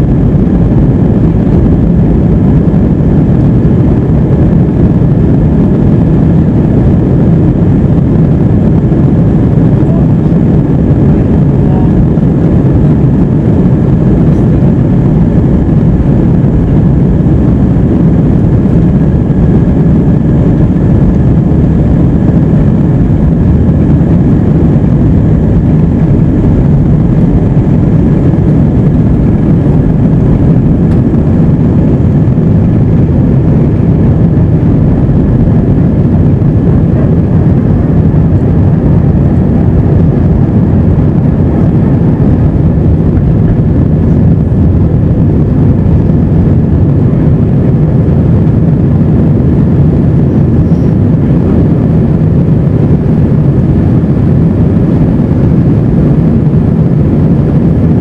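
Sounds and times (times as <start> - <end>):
faint engine whine: 0.0 - 58.0
jet engines roaring: 0.0 - 58.0.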